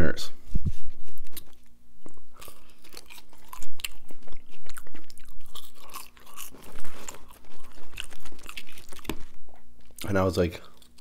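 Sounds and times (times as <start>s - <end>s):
crunchy chewing: 1.1s - 11.0s.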